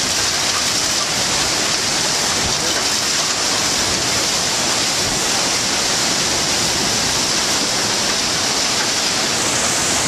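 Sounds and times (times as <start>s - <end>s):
torrential rain pouring: 0.0s - 10.0s.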